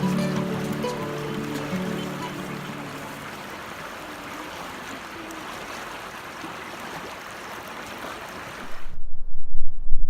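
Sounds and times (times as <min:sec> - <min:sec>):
flowing water rushing: 0:00.0 - 0:09.0.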